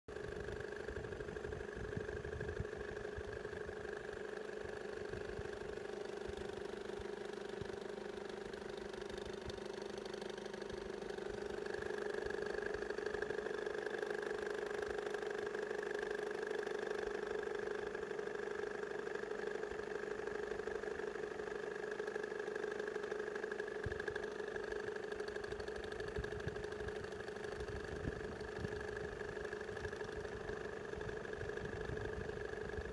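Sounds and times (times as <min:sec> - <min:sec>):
diesel engine idling: 0:00.1 - 0:32.9.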